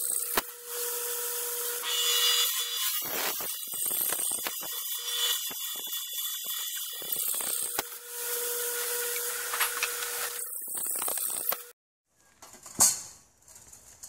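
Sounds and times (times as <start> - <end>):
drill cutting through steel: 0.0 - 11.7.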